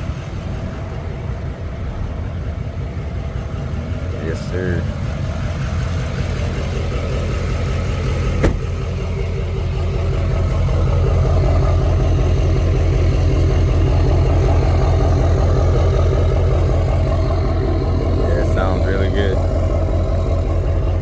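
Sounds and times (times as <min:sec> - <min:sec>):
pickup truck engine idling: 0:00.0 - 0:21.0.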